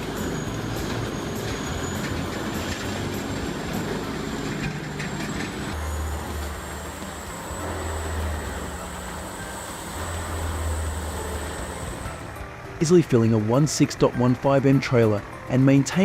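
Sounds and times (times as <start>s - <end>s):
deep engine hum: 0.0s - 14.4s
wood chipper running with whine: 0.0s - 16.0s.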